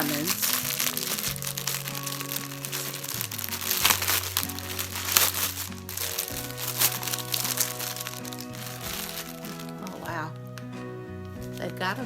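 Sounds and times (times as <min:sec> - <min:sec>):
plastic packaging crinkling: 0:00.0 - 0:10.7
background music: 0:00.0 - 0:12.0.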